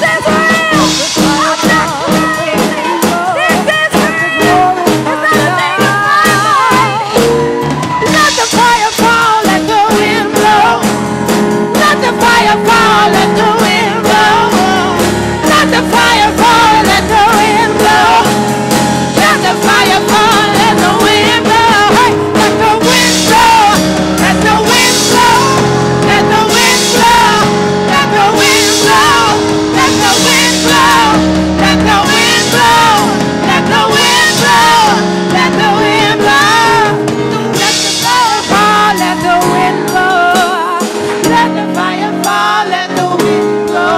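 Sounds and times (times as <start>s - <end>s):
band with drums and guitar: 0.0s - 43.9s
people singing: 0.0s - 43.9s.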